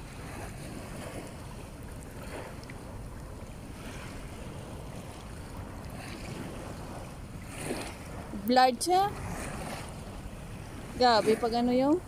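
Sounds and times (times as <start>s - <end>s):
sea water washing: 0.0s - 12.0s
wind buffeting microphone: 0.0s - 12.0s.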